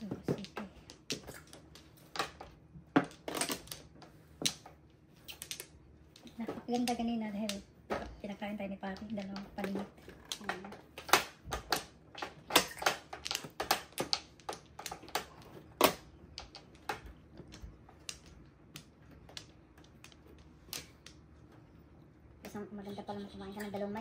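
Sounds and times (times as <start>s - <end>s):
mahjong tiles clacking: 0.0s - 21.9s.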